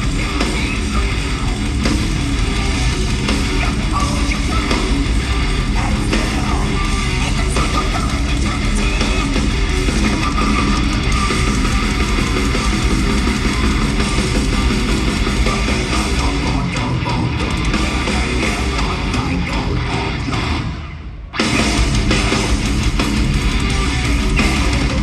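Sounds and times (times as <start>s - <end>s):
distorted guitars: 0.0s - 25.0s
drums: 0.0s - 25.0s
heavy metal band playing live: 0.0s - 25.0s.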